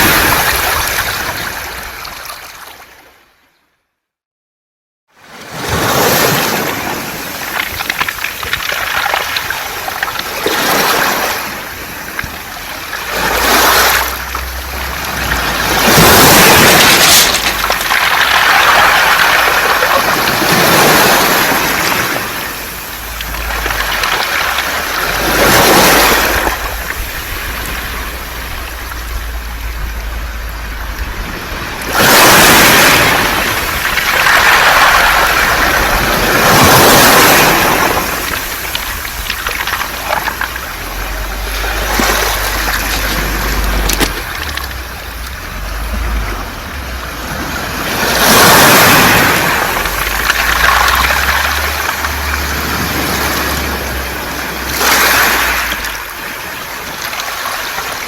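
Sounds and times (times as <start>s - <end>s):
waves washing over pebbles: 0.0s - 3.2s, 5.2s - 58.0s.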